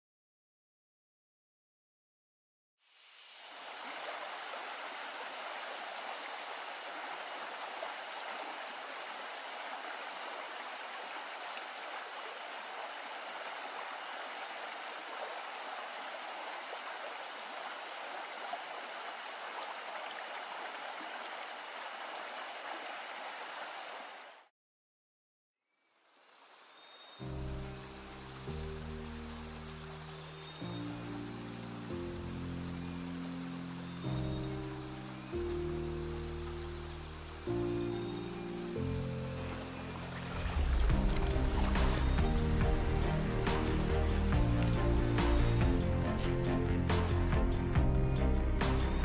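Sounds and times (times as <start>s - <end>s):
river water rushing: 3.0s - 24.4s, 27.3s - 49.0s.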